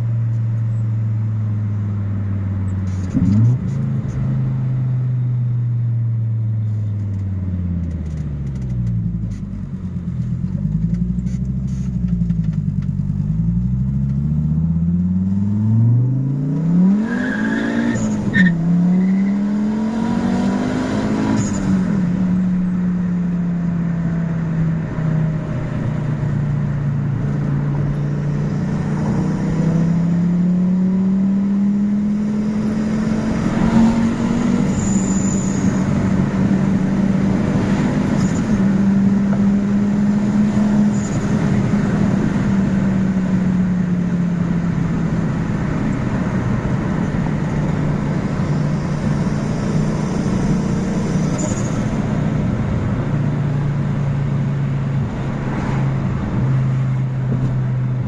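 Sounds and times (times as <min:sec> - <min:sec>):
turbo car engine accelerating: 0:00.0 - 0:58.0.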